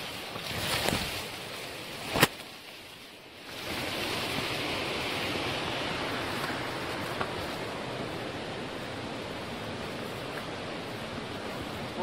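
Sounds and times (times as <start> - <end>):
leaves and grass rustling: 0.0 - 12.0
steady rushing noise: 0.0 - 12.0.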